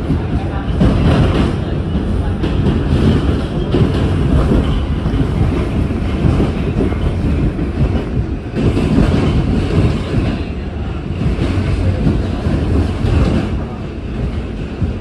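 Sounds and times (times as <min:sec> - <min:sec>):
subway wheels rumbling on rail: 0:00.0 - 0:15.0.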